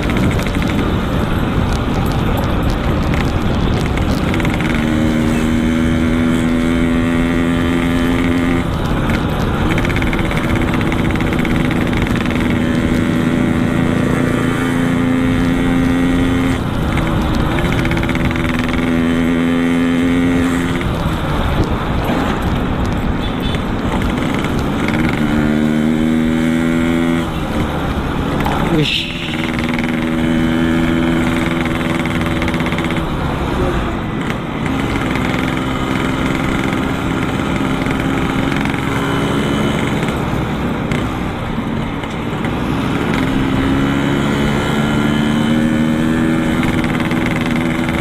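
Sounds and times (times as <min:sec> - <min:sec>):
motorcycle engine while riding: 0:00.0 - 0:48.0.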